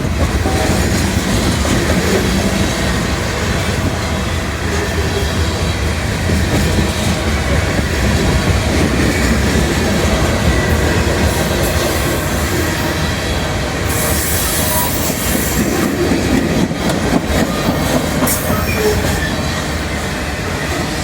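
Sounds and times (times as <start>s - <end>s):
train wheels clacking: 0.0s - 21.0s
train wheels rumbling on rails: 0.0s - 21.0s.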